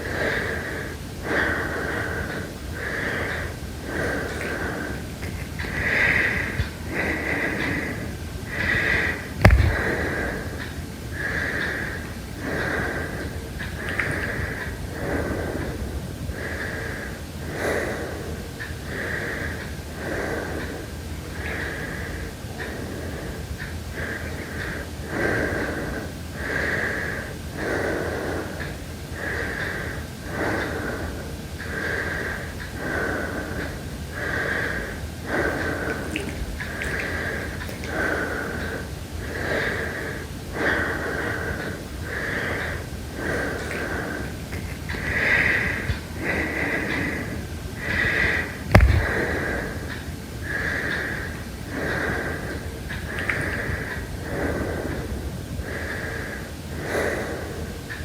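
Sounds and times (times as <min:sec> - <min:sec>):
heavy breathing: 0:00.0 - 0:58.0.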